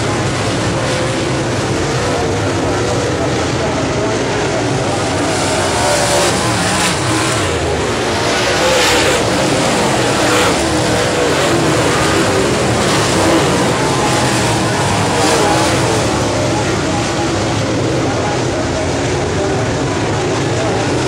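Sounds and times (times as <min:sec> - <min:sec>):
race car engines racing: 0:00.0 - 0:21.0.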